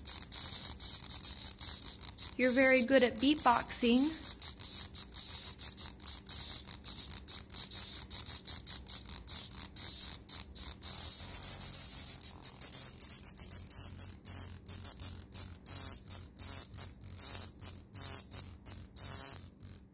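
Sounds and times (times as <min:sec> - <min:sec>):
cicada buzzing: 0:00.0 - 0:19.4.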